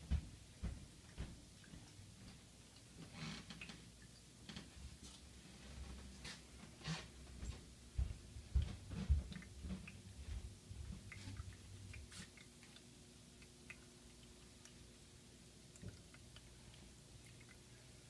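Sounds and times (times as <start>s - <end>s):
water trickling and dripping: 0.1s - 5.4s, 7.4s - 18.0s.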